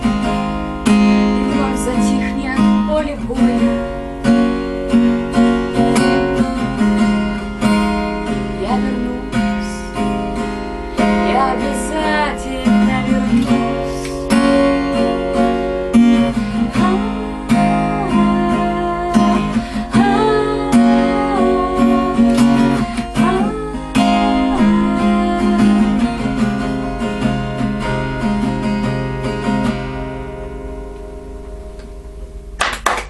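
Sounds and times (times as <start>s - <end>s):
acoustic guitar strumming: 0.0s - 32.8s.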